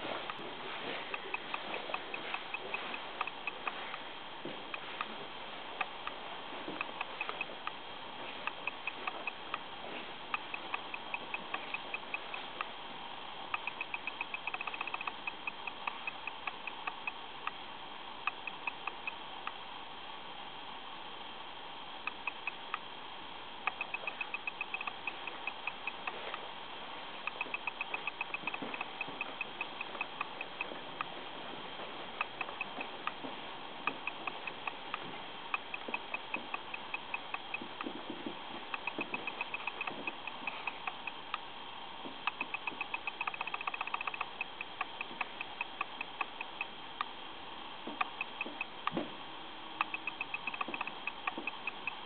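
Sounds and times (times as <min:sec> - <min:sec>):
light mechanical ticking: 0:00.0 - 0:12.8, 0:13.4 - 0:17.6, 0:18.2 - 0:19.7, 0:22.0 - 0:22.9, 0:23.6 - 0:41.5, 0:42.1 - 0:47.2, 0:47.9 - 0:49.0, 0:49.8 - 0:52.0
steady hiss: 0:00.0 - 0:52.0.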